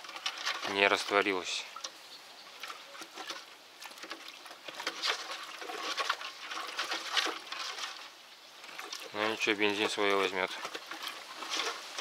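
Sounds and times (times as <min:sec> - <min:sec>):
pipe scraping in a bucket: 0:00.0 - 0:01.6, 0:02.6 - 0:12.0
liquid sloshing: 0:00.0 - 0:12.0.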